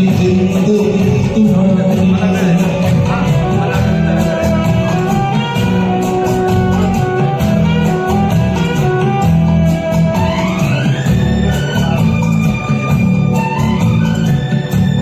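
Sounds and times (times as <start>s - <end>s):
instrumental backing track: 0.0s - 15.0s.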